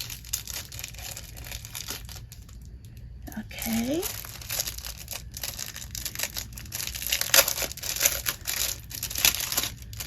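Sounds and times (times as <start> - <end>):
packaging crinkling and crackling: 0.0 - 10.0.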